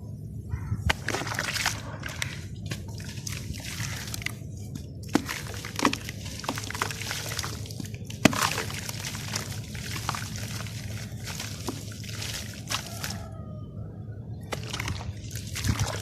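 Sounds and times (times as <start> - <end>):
sand clumps crumbling in water: 0.9 - 13.3, 14.5 - 16.0.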